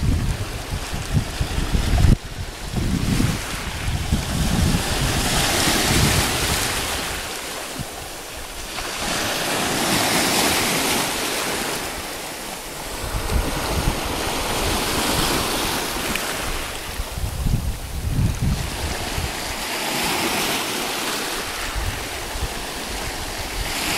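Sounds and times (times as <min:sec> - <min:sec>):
wind buffeting microphone: 0:00.0 - 0:20.2, 0:21.2 - 0:23.9
surf washing over rocks: 0:00.0 - 0:23.9.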